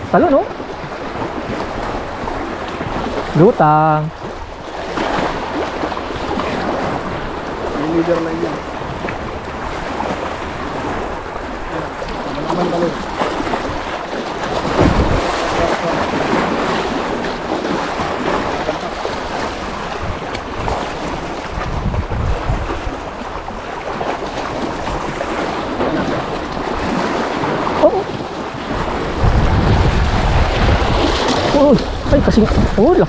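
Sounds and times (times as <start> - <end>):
waves splashing over rocks: 0.0 - 33.0
wind buffeting microphone: 0.0 - 33.0.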